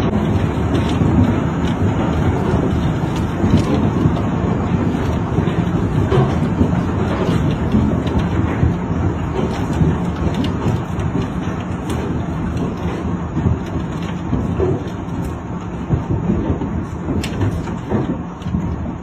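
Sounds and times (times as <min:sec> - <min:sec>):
heavy hail falling: 0:00.0 - 0:19.0.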